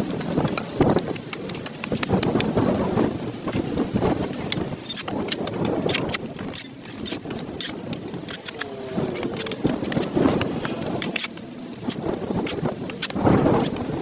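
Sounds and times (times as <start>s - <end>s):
hand tool scraping concrete: 0.1s - 14.0s.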